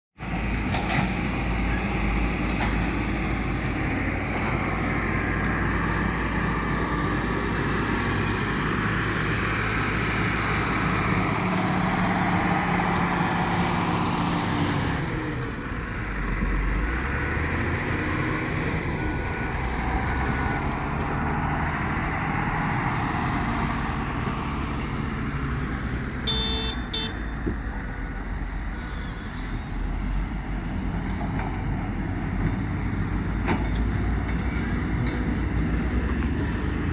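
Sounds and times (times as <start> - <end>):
heavy diesel engines under load: 0.2 - 36.9.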